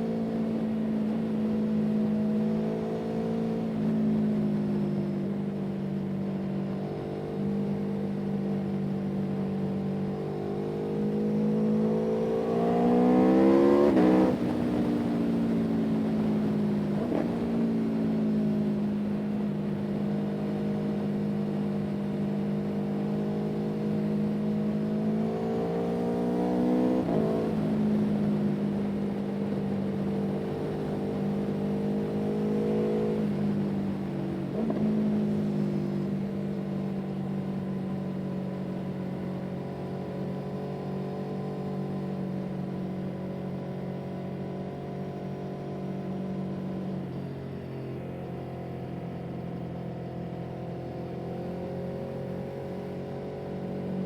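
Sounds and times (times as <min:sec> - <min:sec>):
vehicle engine running and revving: 0:00.0 - 0:54.0.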